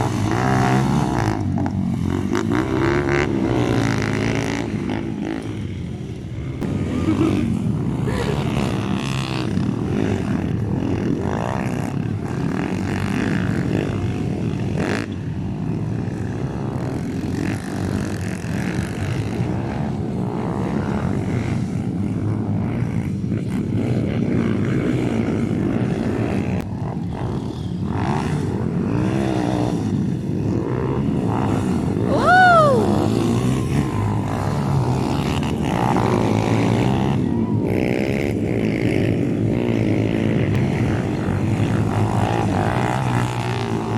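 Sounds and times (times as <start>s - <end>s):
dirt bike engines droning: 0.0s - 43.9s
dirt bike revving: 0.0s - 43.9s.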